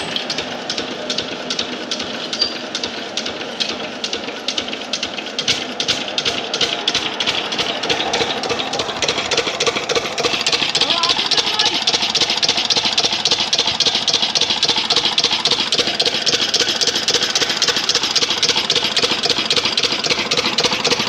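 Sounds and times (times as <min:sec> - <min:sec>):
diesel engine chugging: 0:00.0 - 0:21.0.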